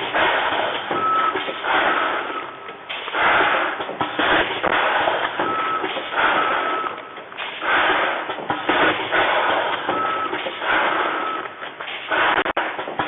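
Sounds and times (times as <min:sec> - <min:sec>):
packing machine running: 0:00.0 - 0:13.0.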